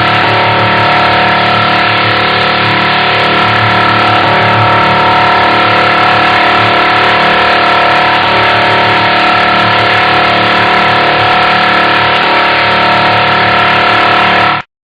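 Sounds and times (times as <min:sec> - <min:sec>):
robotic vocoder buzzing drone: 0:00.0 - 0:14.7.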